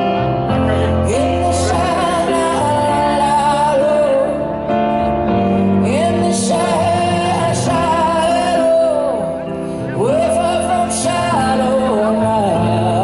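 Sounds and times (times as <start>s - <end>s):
live band playing pop ballad: 0.0s - 13.0s
woman singing: 1.0s - 4.6s, 5.8s - 13.0s.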